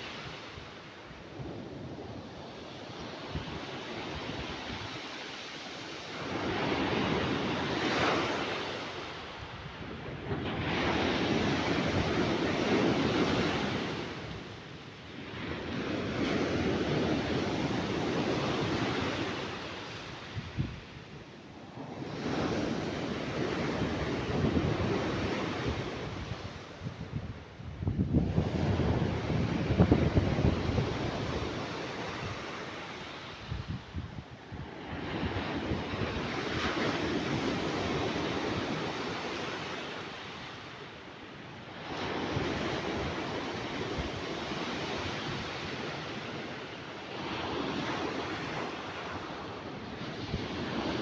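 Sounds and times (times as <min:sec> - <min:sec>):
sea waves breaking on beach: 0:00.0 - 0:27.5, 0:28.1 - 0:51.0.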